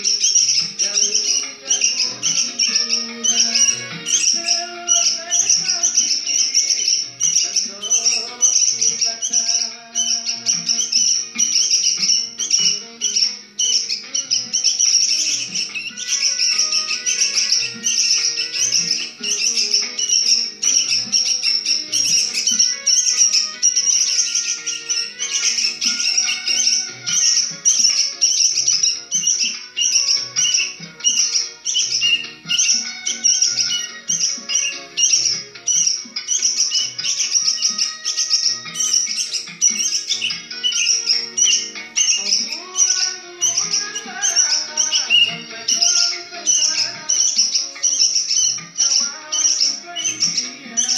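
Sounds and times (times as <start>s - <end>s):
background music: 0.0s - 50.9s
songbird chirping and trilling: 0.0s - 50.9s.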